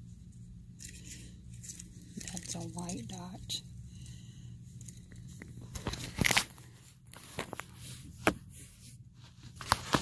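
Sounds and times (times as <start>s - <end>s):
rustling and crinkling packaging: 0.7s - 3.6s, 4.7s - 10.0s.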